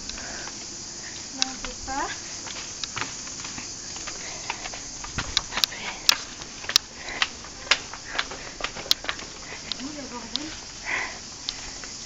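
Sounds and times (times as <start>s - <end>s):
cicadas buzzing: 0.0s - 12.0s
footsteps on stone: 0.0s - 12.0s.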